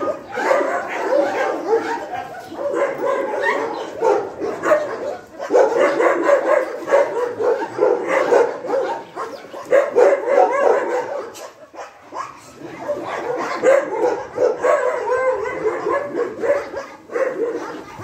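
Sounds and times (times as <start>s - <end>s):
dog barking and yapping: 0.0s - 18.0s.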